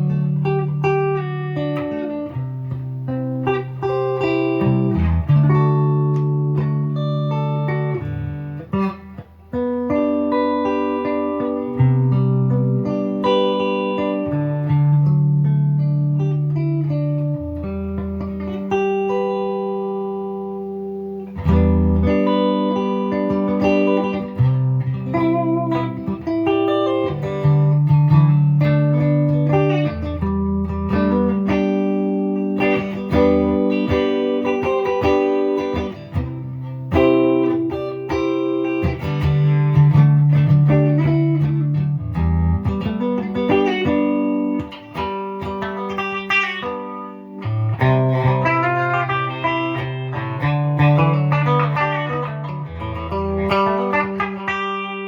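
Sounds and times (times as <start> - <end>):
clean electric guitar playing: 0.0 - 55.0.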